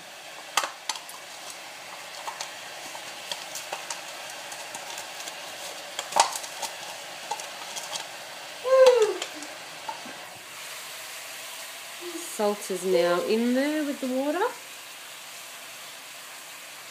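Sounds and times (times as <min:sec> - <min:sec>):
water sizzling in a frying pan: 0:00.0 - 0:16.9.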